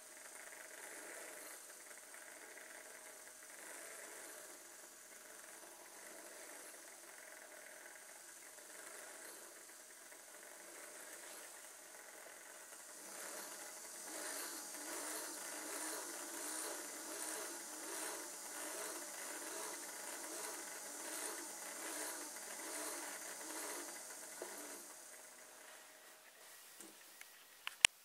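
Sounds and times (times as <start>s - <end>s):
electric motors and gears whirring: 0.0s - 27.8s.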